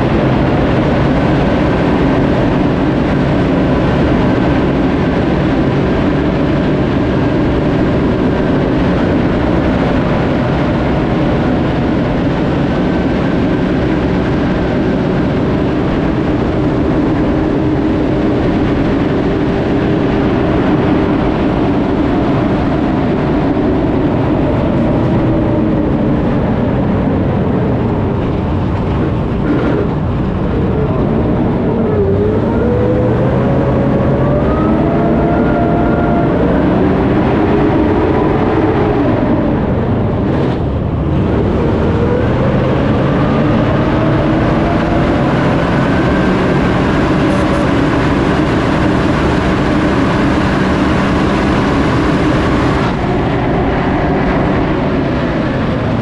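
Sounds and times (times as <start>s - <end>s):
tracked vehicle engine running: 0.0s - 56.0s.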